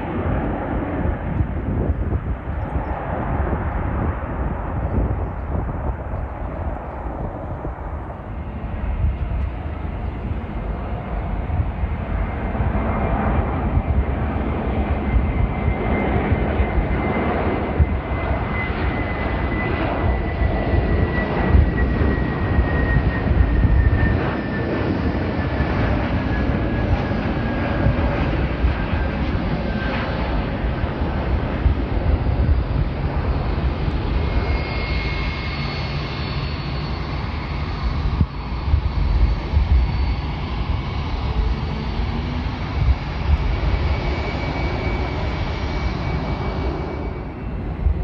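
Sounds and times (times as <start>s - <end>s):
jet engines passing: 0.0s - 48.0s.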